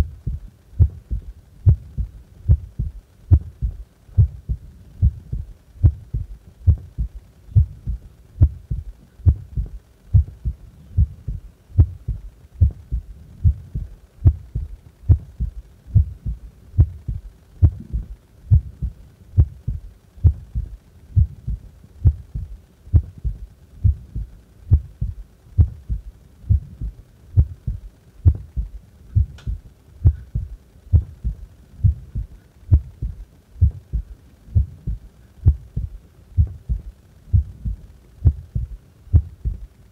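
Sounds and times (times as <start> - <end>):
heart beating: 0.0 - 39.7.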